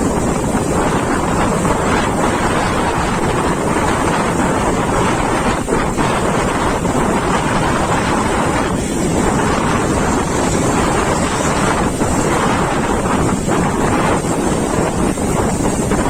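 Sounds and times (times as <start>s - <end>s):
storm waves breaking on beach: 0.0s - 16.0s
wind buffeting microphone: 0.0s - 16.0s.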